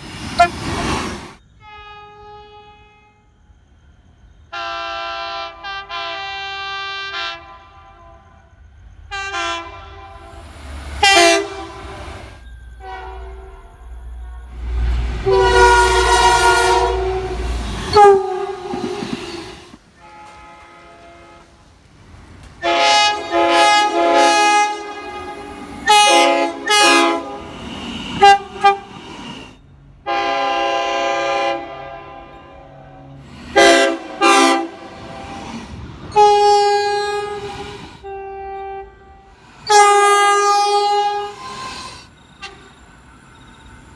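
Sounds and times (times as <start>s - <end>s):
deep rumble of passing train: 0.0s - 43.9s
train horn blasts: 0.2s - 3.6s, 4.5s - 42.8s.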